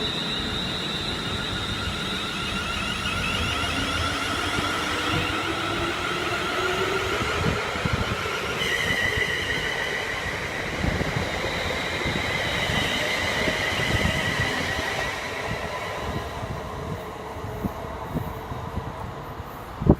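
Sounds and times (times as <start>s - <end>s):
high steady whine: 0.0s - 19.9s
train wheels rumbling on rail: 0.0s - 19.9s.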